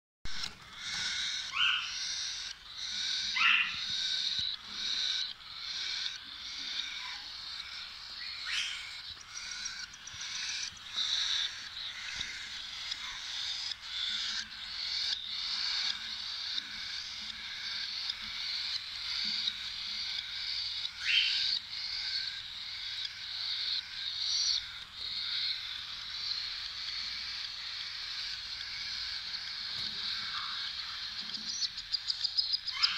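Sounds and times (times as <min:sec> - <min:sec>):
cockatiels raspy calls: 0:00.3 - 0:32.9.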